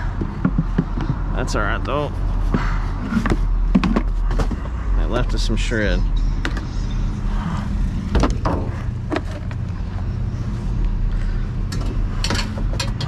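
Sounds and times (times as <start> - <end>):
idling vehicle engine hum: 0.0 - 13.0.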